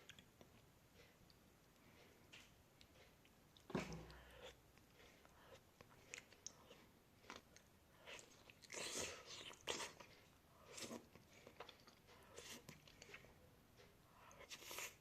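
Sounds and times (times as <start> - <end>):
chewing and crunching food: 2.8 - 15.0.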